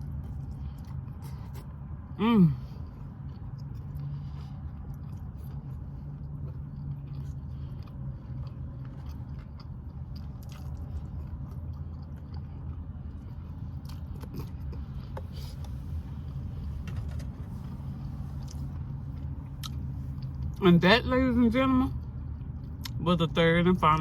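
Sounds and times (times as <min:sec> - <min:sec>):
person chewing food: 0:00.0 - 0:20.6, 0:21.9 - 0:23.0
steady low hum: 0:00.0 - 0:24.0.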